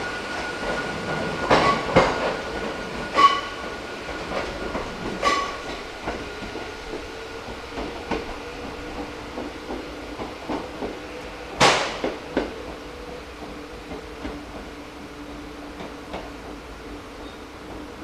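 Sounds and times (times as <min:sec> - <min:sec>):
train wheels clicking over rail joints: 0:00.3 - 0:18.0.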